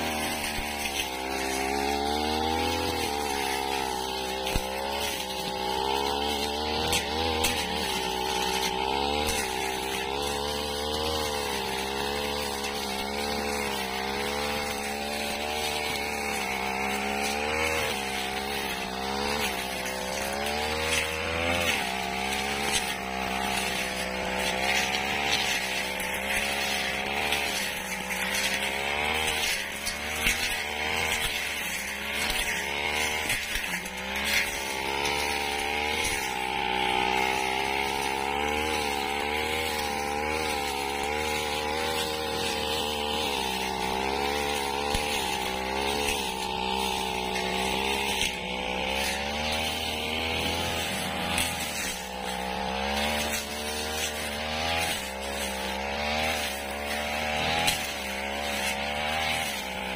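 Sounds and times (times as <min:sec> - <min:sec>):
brush cutter engine running: 0:00.0 - 0:59.9
rasping hiss of cut grass: 0:00.0 - 0:59.9.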